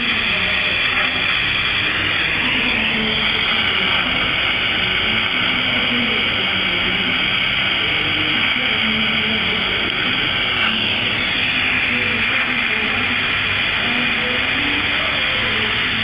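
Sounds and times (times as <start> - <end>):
torch burning with steady hiss: 0.0 - 16.0.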